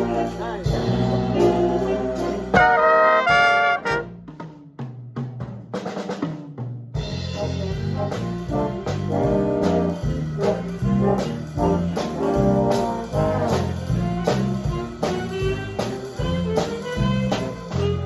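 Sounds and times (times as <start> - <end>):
walking bass line: 0.0 - 4.2, 7.0 - 18.0
brass section playing: 0.0 - 4.3, 7.1 - 18.0
drum kit: 0.0 - 18.0.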